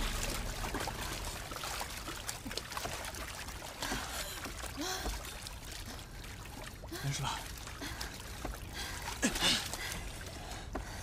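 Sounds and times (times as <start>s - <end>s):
bubbly splashes: 0.0s - 10.5s
sea water sloshing: 0.0s - 11.0s.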